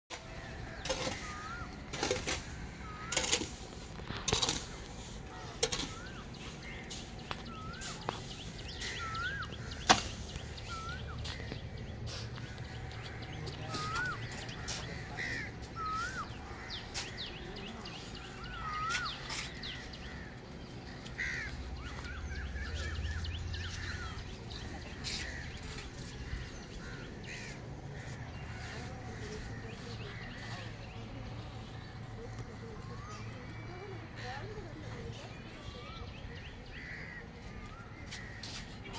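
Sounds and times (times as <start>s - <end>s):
birds calling: 0.1s - 38.9s.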